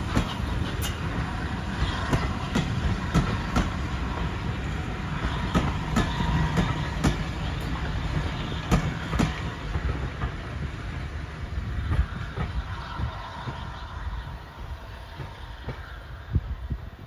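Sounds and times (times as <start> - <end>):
wheels clacking over rail joints: 0.0 - 14.0
steam train rumble: 0.0 - 17.0.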